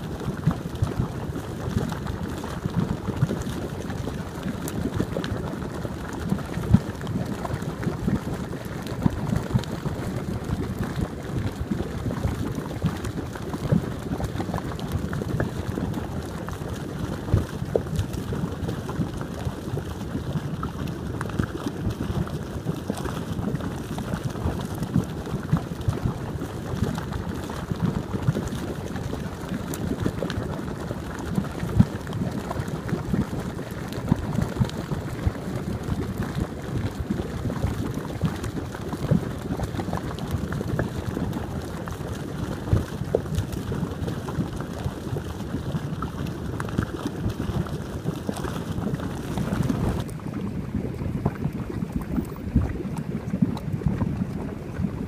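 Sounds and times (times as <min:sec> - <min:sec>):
mud pots bubbling and popping: 0:00.0 - 0:55.0.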